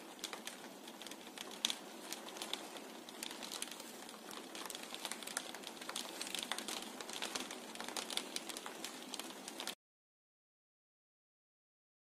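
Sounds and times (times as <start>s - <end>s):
rain tapping on window glass: 0.0s - 9.8s.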